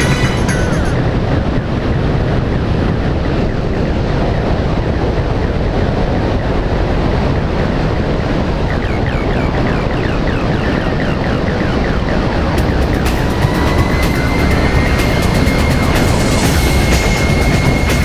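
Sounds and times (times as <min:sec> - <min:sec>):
engine noise: 0:00.0 - 0:18.0
wind on microphone: 0:00.0 - 0:18.0.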